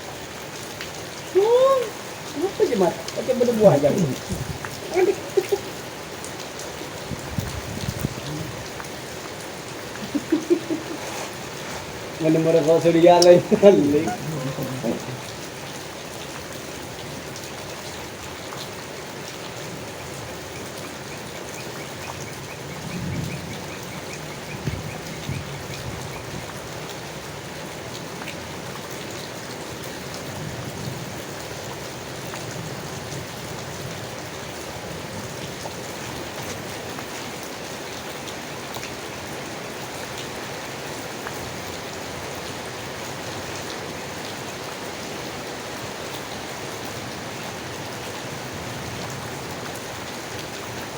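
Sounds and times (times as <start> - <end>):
rain falling on leaves: 0.0 - 50.9.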